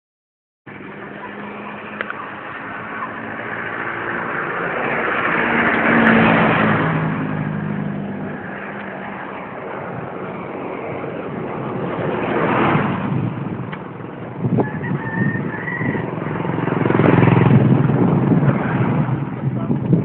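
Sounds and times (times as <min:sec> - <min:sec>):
motor vehicle passing: 0:00.7 - 0:20.0.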